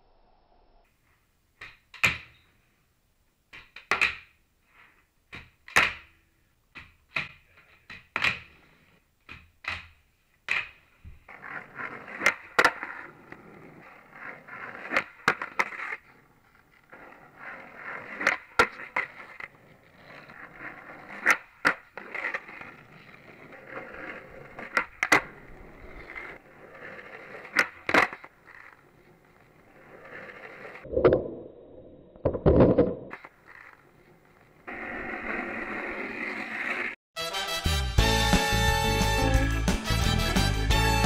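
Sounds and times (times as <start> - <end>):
skateboard wheels rolling on asphalt: 0.9 - 37.0.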